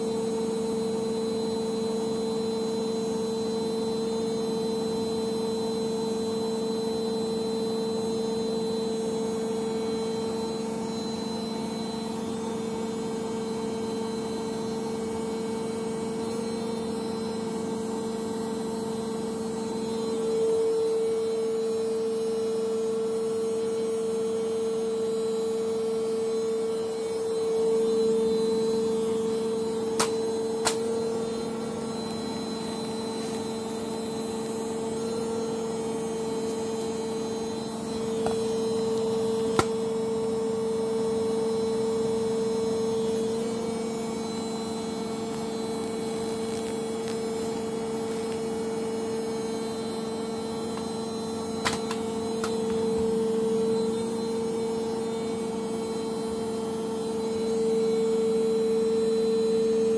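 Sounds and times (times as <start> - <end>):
washing machine spinning: 0.0 - 57.4.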